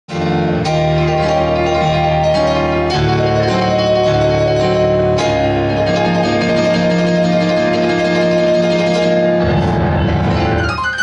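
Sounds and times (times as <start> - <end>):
keyboard playing held chords: 0.1 - 11.0.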